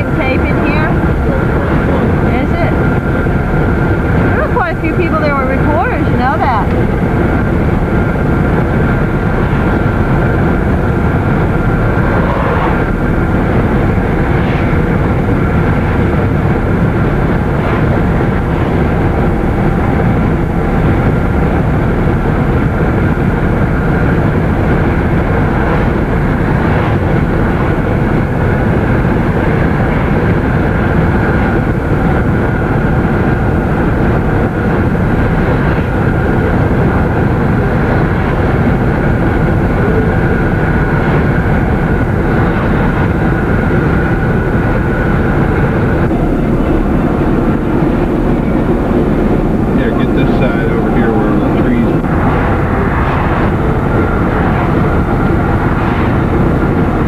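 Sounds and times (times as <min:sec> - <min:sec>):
wind and road noise in car: 0:00.0 - 0:57.0.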